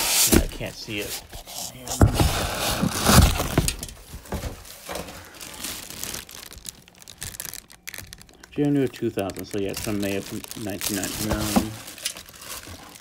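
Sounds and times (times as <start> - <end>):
plastic wrapping crinkling: 0.3 - 13.0.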